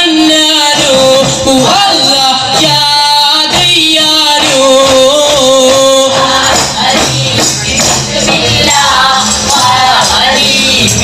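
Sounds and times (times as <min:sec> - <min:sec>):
frame drums: 0:00.0 - 0:11.0
men singing long notes: 0:00.0 - 0:11.0.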